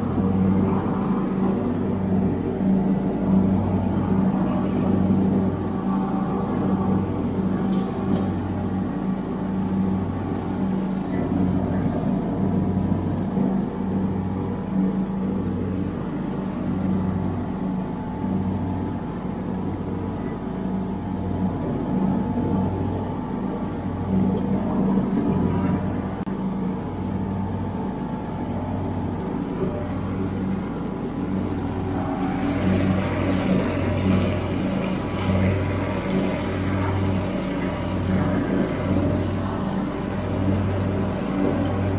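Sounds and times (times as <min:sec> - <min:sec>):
riding mower engine humming: 0:00.0 - 0:41.9.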